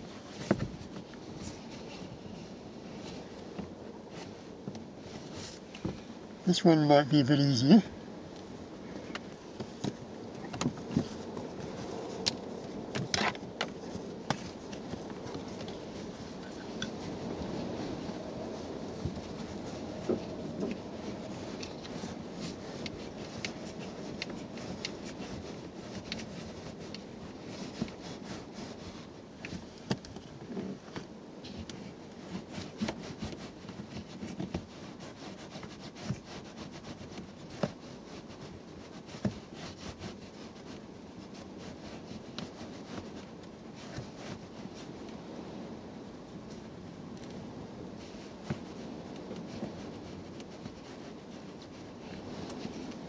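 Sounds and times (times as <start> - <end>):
rubbing and rustling of cloth: 0.0 - 53.0.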